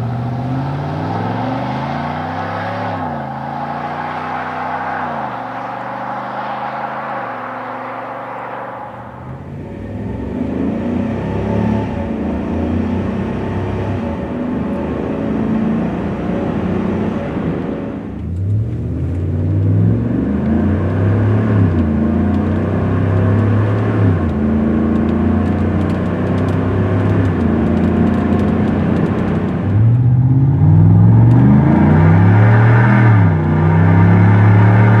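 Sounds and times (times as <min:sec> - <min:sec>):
truck engine accelerating: 0:00.0 - 0:35.0.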